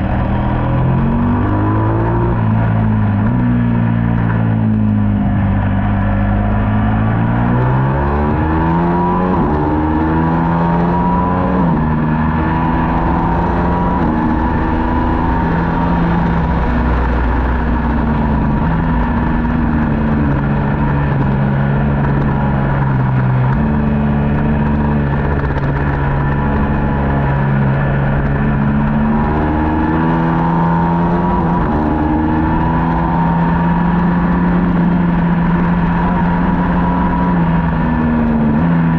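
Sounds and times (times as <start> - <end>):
racing motorcycle engine: 0.0 - 38.9.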